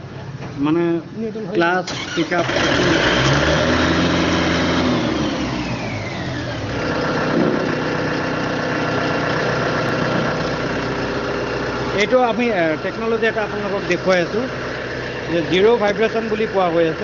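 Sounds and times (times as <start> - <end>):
diesel tractor engine idling: 1.4 - 17.0.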